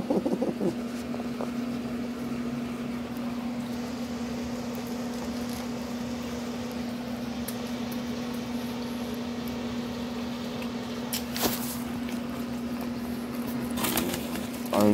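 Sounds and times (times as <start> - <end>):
low machine hum: 0.0 - 14.9.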